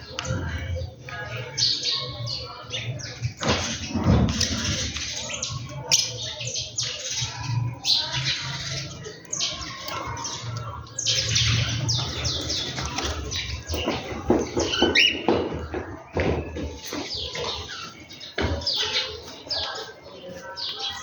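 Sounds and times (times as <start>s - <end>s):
birds chirping and squawking: 0.0s - 21.0s.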